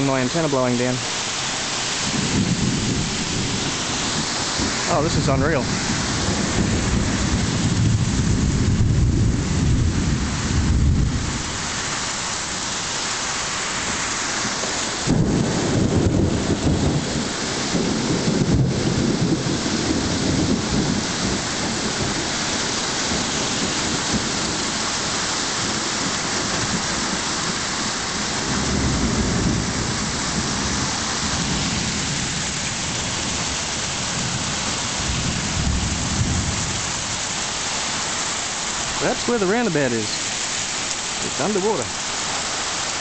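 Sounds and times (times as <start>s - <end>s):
torrential rain pouring: 0.0s - 43.0s.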